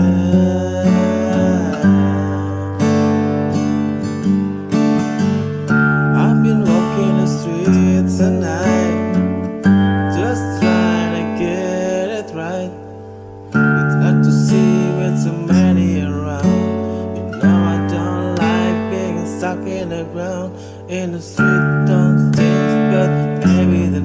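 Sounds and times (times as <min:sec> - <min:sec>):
song with strummed acoustic guitar: 0:00.0 - 0:24.0.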